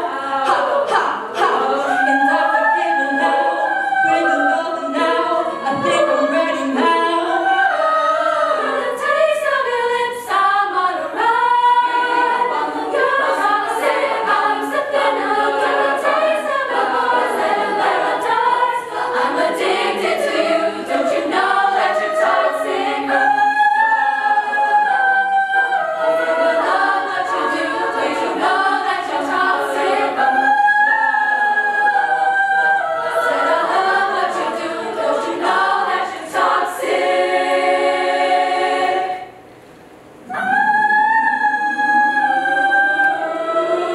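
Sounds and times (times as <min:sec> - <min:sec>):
women's choir singing: 0:00.0 - 0:39.5, 0:40.2 - 0:43.9.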